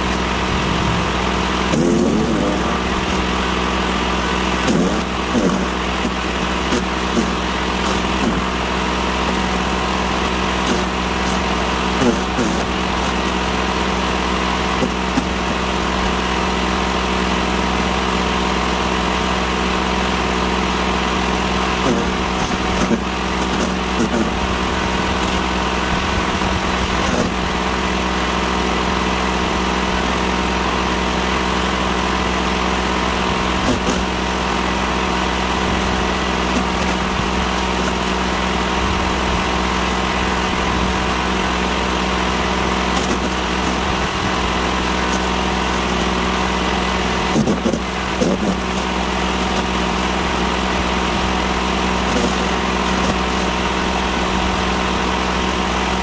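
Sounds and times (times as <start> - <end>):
electric wood chipper running: 0.0 - 56.0
generator running: 0.0 - 56.0.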